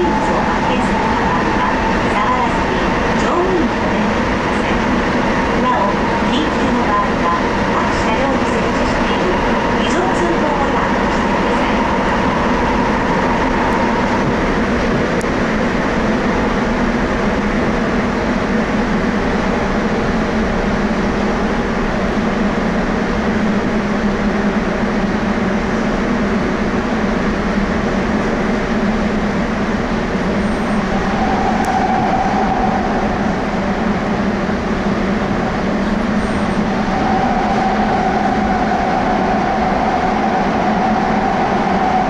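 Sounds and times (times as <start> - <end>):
subway train rumbling in tunnel: 0.0 - 42.0.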